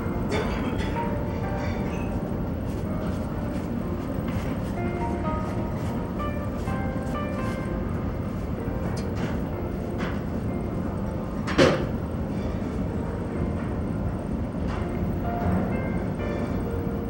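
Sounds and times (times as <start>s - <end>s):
ferry engine rumble: 0.0s - 17.0s.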